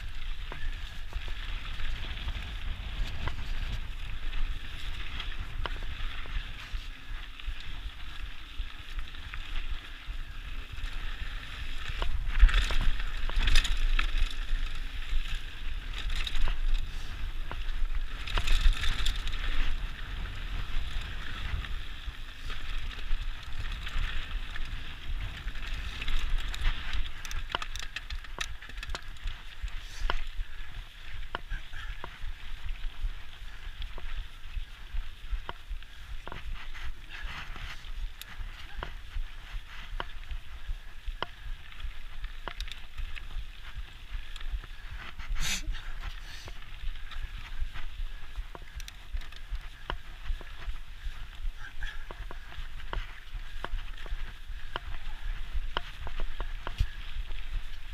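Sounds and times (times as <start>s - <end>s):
wind on microphone: 0.0s - 8.2s, 8.8s - 57.9s
bike rattling over rocks: 0.0s - 57.9s.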